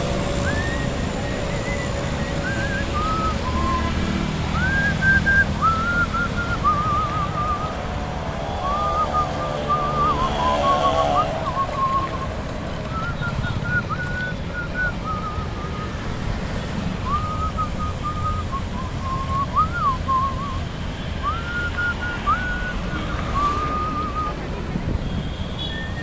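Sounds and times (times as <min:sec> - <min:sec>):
wind and road noise: 0:00.0 - 0:26.0
person whistling a tune: 0:00.4 - 0:16.2, 0:17.0 - 0:24.6, 0:25.4 - 0:26.0.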